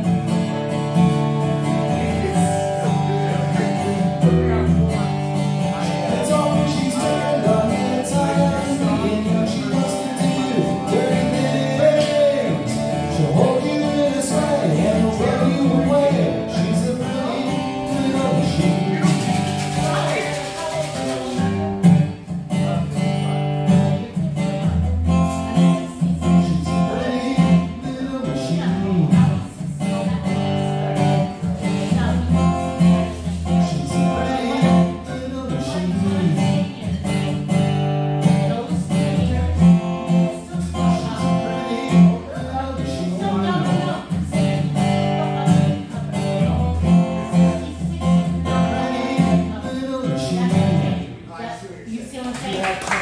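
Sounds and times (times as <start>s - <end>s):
man singing: 0.0s - 51.2s
acoustic guitar strumming: 0.0s - 51.3s.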